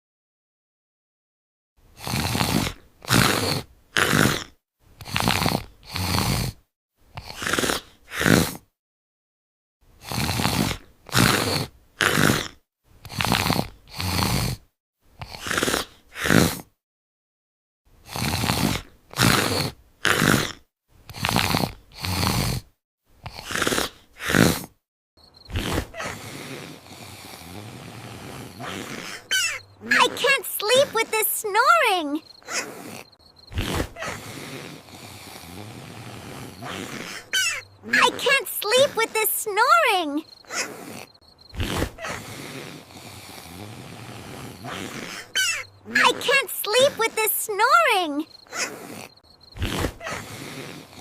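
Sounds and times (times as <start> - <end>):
cartoon snoring: 2.0 - 8.7, 10.0 - 16.8, 18.0 - 24.8, 25.5 - 51.0.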